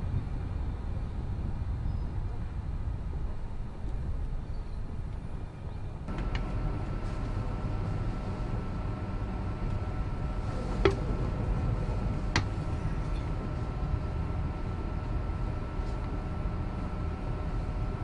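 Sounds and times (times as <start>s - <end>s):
van cabin rumble with high whine: 0.0s - 18.0s.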